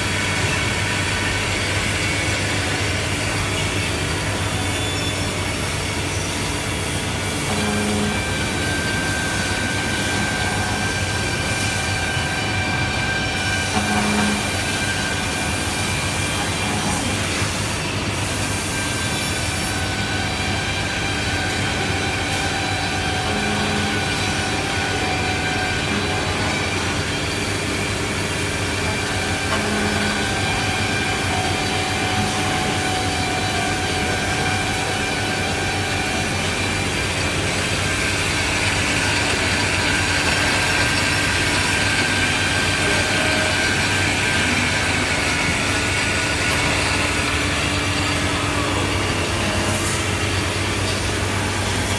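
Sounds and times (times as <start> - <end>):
spindle motors whining: 0.0 - 51.9
wood machining noise: 0.0 - 51.9.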